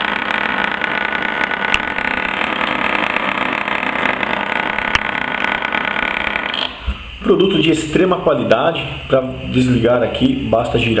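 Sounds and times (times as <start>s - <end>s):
massager motor buzzing: 0.0s - 11.0s.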